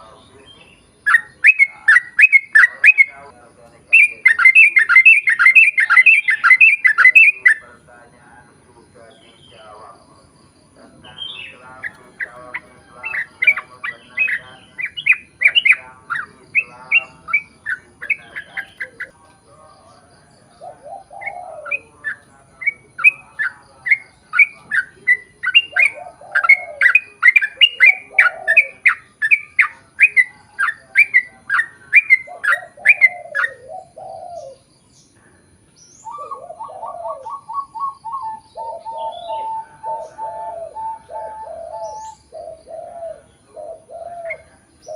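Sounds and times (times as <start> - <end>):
lower steady bird call: 0.0 - 44.9.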